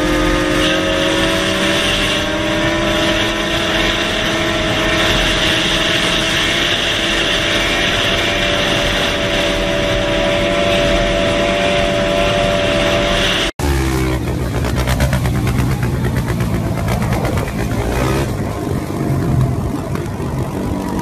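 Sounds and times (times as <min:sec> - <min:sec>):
road and wind noise: 0:00.0 - 0:21.0
vehicle engine at highway speed: 0:00.0 - 0:21.0.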